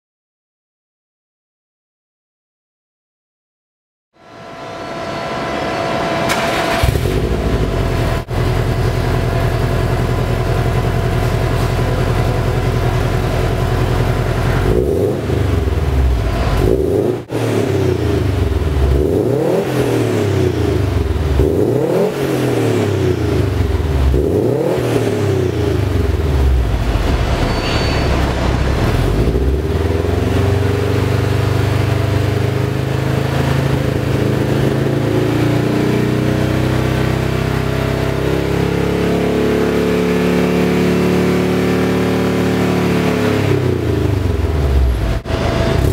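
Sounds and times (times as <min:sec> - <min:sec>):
car engine idling and revving: 0:04.4 - 0:45.9.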